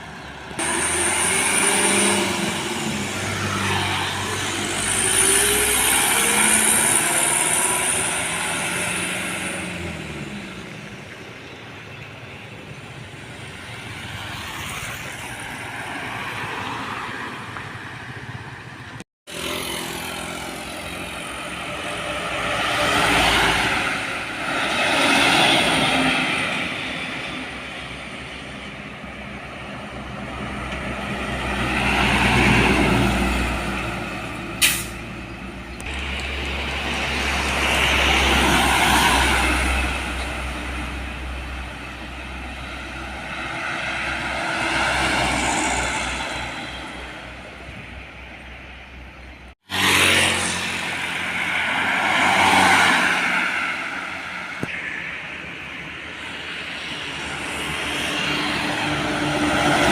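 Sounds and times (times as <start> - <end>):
heavy trucks passing: 0.0 - 59.9.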